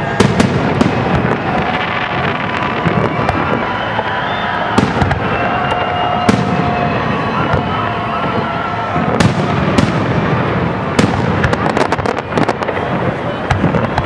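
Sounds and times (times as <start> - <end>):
firework crackling: 0.0 - 14.0.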